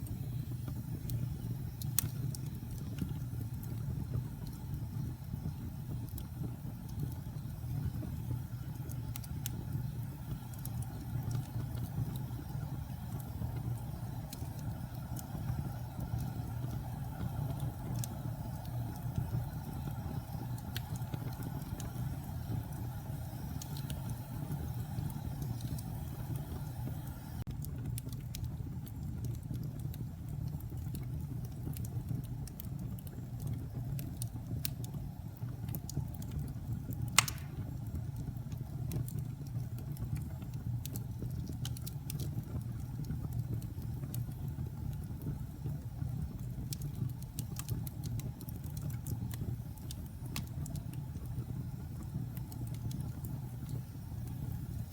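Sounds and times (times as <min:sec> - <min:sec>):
fire crackling and popping: 0:00.0 - 0:54.9
fire flames rumbling: 0:00.0 - 0:54.9.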